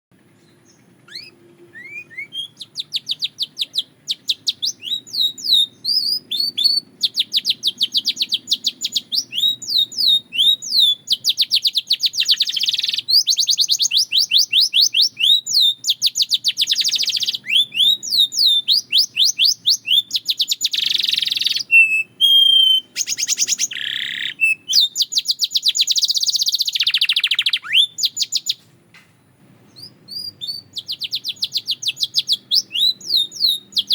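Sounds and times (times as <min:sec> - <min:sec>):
canary singing trills: 0:00.2 - 0:28.6, 0:29.6 - 0:33.9.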